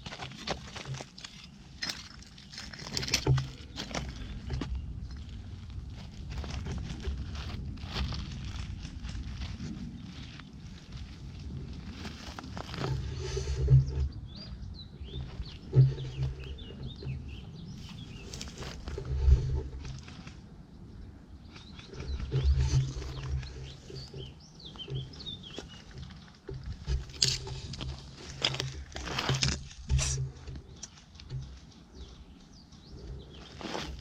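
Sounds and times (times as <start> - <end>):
birds chirping: 0.0 - 7.5, 8.3 - 34.0
low rumbling bursts on microphone: 3.3 - 34.0.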